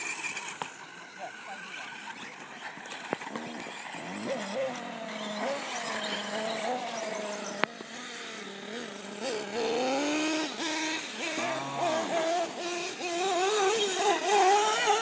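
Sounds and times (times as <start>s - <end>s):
toy car motors whining: 0.0s - 15.0s.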